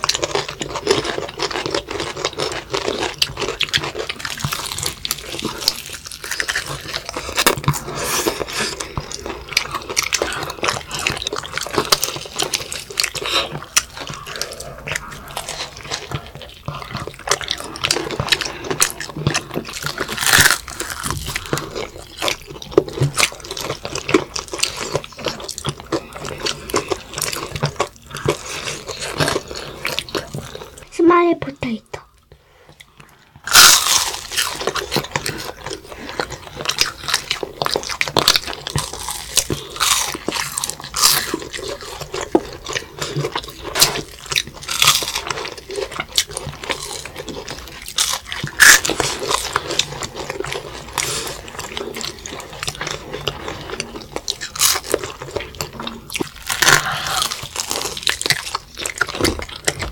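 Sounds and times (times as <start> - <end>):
children crunching fried chicken: 0.0 - 59.9.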